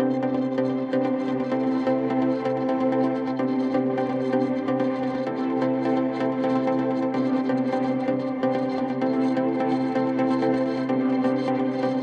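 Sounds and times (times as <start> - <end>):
calm ambient instrumental music: 0.0 - 12.0.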